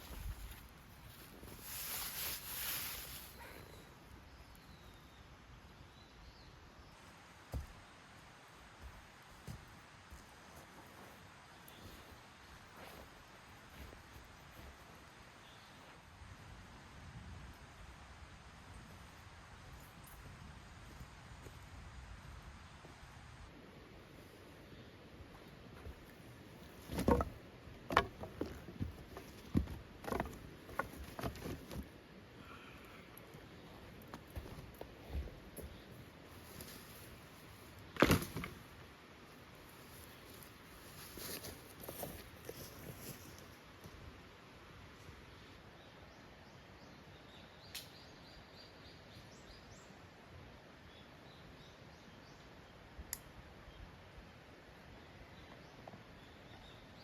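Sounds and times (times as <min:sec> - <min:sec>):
faint steady background noise: 0:00.0 - 0:57.0
soft outdoor hiss: 0:00.0 - 0:57.0.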